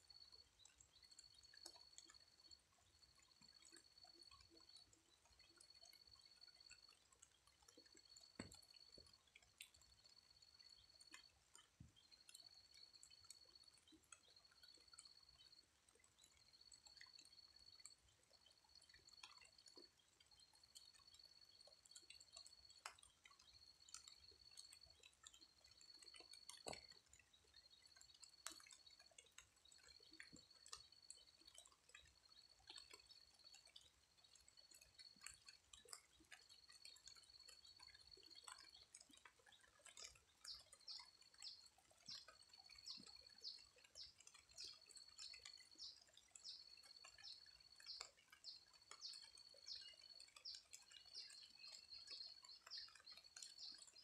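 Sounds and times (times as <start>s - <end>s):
faint rain drips: 0.0s - 54.0s.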